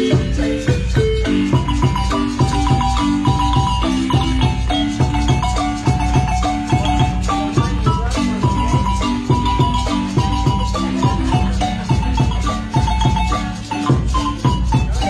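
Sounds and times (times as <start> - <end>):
marimba music: 0.0 - 15.0
steady low bass: 0.0 - 15.0.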